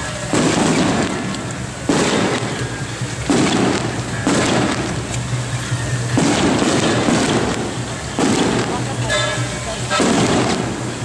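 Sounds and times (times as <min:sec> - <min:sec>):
heavy rain hissing: 0:00.0 - 0:11.0
loud crackling surges: 0:00.0 - 0:11.0.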